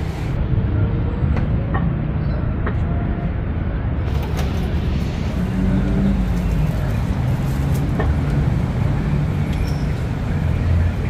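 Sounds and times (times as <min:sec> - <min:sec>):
vehicle engines passing: 0:00.0 - 0:11.0.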